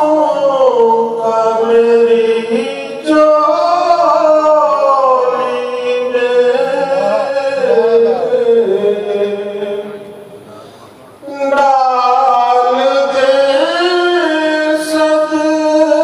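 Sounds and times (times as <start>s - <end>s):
man singing into a microphone: 0.0s - 10.2s, 11.2s - 16.0s.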